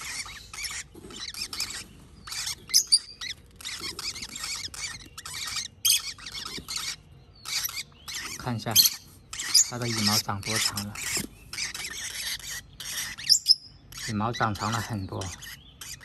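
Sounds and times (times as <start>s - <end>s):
parrot chicks begging calls: 0.0s - 16.0s.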